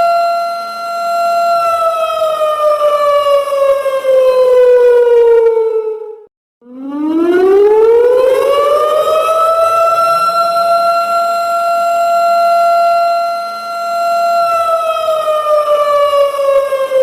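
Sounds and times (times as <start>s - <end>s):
siren wailing: 0.0s - 17.0s.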